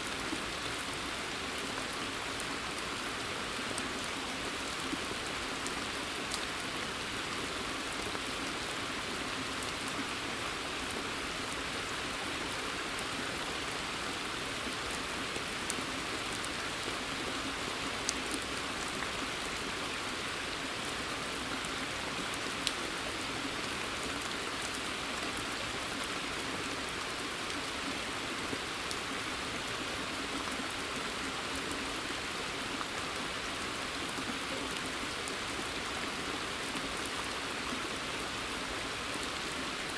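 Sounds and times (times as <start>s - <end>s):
rain falling on pond and forest: 0.0s - 39.9s.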